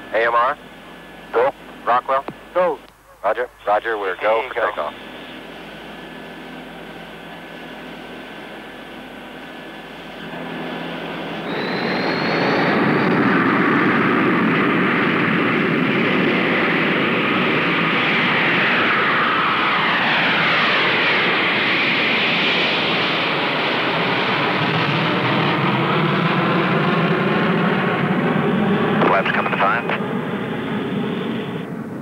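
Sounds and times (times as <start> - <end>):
jet engines at takeoff power: 0.0 - 32.0
rising engine whine: 3.6 - 32.0.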